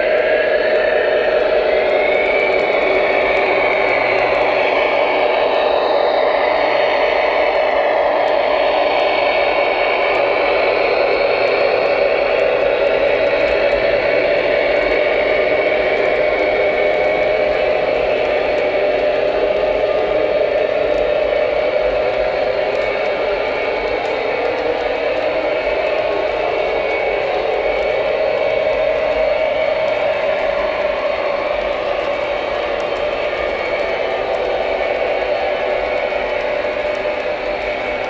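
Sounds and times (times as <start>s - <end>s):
high whine: 0.0s - 38.0s
model train motor hum: 0.0s - 38.0s
wheels ticking over track: 7.5s - 38.0s.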